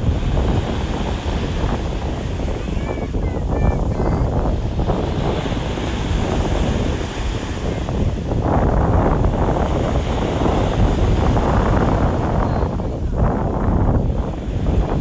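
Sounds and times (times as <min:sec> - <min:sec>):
sea surf rumble: 0:00.0 - 0:15.0
wind buffeting microphone: 0:00.0 - 0:15.0.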